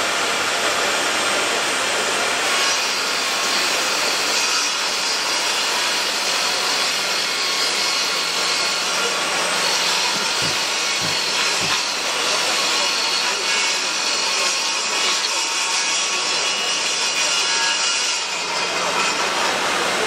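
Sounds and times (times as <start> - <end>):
table saw cutting plywood: 0.0 - 20.0.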